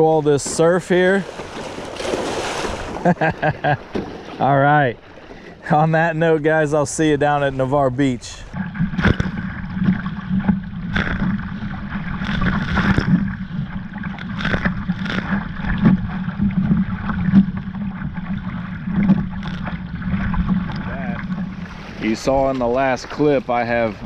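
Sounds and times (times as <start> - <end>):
water rushing past hull: 0.0 - 24.0
waves splashing against boat: 0.0 - 24.0.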